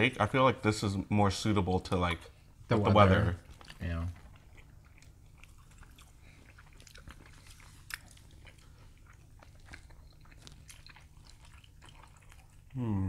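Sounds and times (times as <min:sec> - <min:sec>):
low steady hum: 0:00.0 - 0:13.0
people chewing food: 0:00.0 - 0:13.0.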